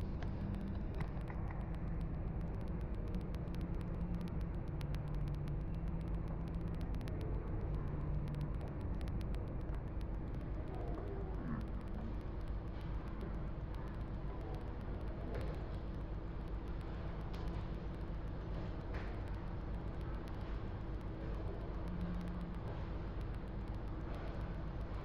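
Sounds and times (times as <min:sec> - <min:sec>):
faint hum: 0:00.0 - 0:25.0
mall background rumble: 0:00.0 - 0:25.0.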